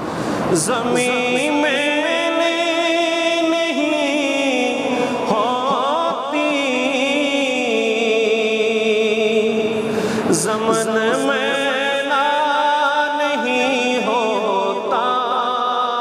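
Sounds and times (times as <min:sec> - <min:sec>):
man singing: 0:00.5 - 0:16.0.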